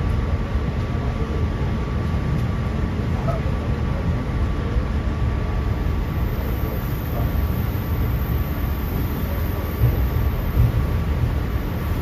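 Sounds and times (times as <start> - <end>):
faint steady train whine: 0.0 - 12.0
train interior rumble: 0.0 - 12.0.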